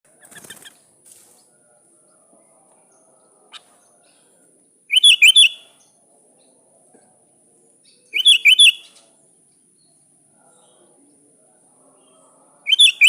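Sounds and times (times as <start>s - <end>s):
bird singing: 1.4s - 7.0s, 7.6s - 13.0s.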